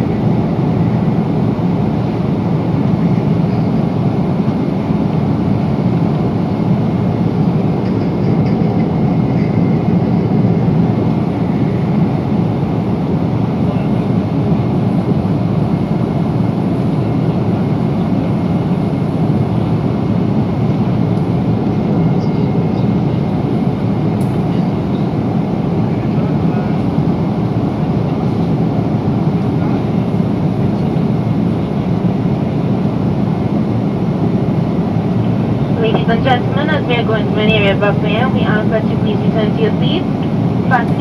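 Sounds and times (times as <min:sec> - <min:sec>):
airliner cabin roar: 0:00.0 - 0:41.0.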